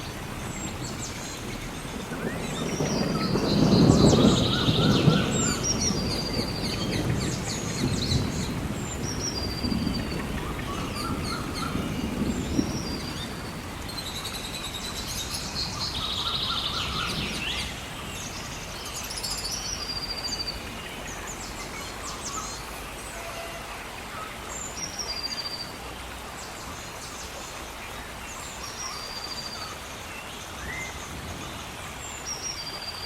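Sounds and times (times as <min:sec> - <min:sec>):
gentle rain patter: 0:00.0 - 0:33.0
songbirds chirping and trilling: 0:00.0 - 0:33.0.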